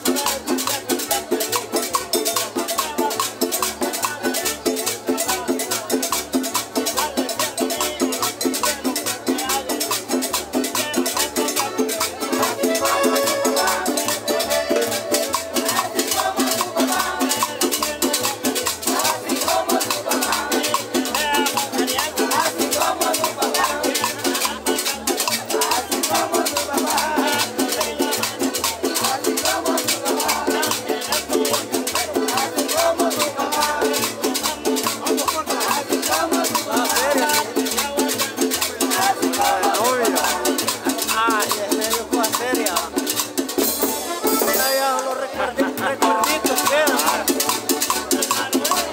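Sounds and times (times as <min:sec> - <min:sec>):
band playing latin dance music: 0:00.0 - 0:48.9.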